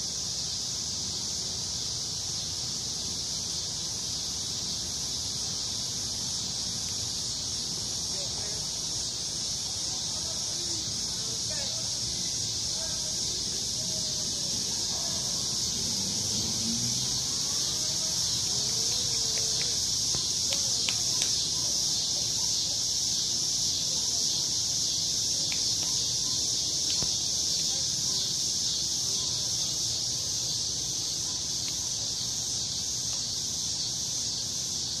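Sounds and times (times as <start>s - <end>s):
high-pitched insect chorus: 0.0s - 35.0s
faint voices: 5.0s - 35.0s.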